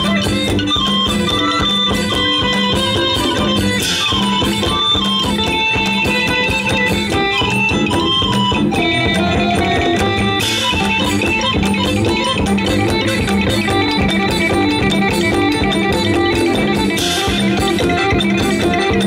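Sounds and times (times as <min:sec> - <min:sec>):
drums with steady beat: 0:00.0 - 0:19.0
plucked string melody: 0:00.0 - 0:19.0.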